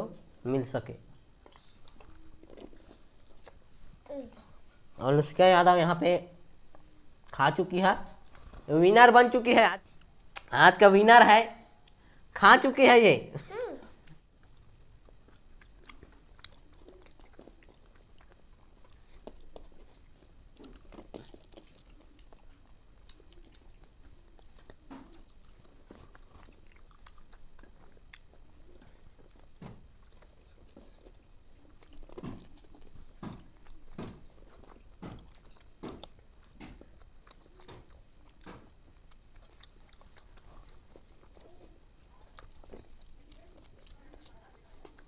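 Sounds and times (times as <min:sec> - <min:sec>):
people chewing: 0:01.0 - 0:05.3, 0:08.0 - 0:08.7, 0:11.8 - 0:12.3, 0:13.4 - 0:45.0.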